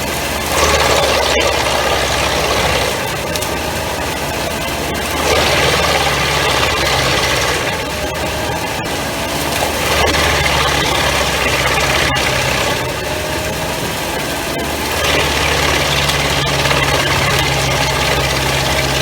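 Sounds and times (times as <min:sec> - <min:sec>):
drum chipper chipping wood: 0:00.0 - 0:19.0
sharp cracks: 0:00.0 - 0:19.0
tractor engine running: 0:00.0 - 0:19.0.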